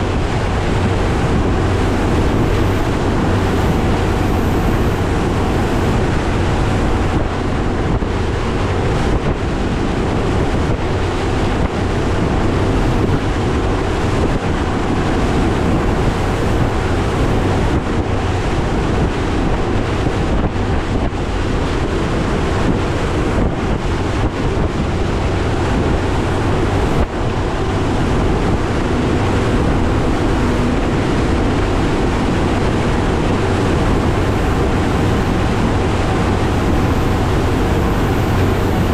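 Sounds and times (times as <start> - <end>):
outboard motor running: 0.0 - 38.9
rush of water: 0.0 - 38.9
wind noise on microphone: 0.0 - 38.9.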